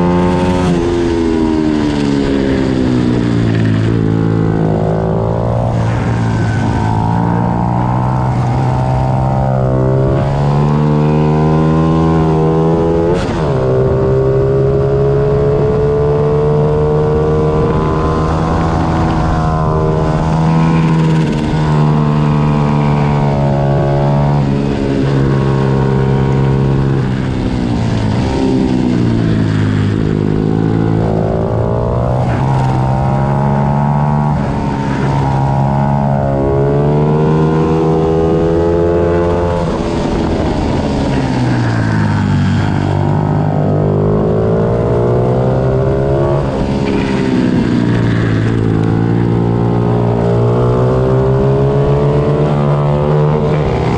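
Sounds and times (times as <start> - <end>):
pit bike engines racing: 0.0 - 53.9.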